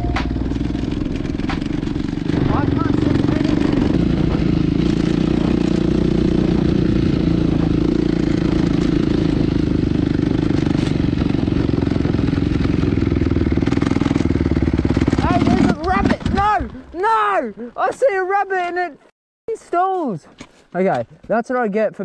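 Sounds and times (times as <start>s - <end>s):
dirt bike engine running: 0.0s - 17.9s.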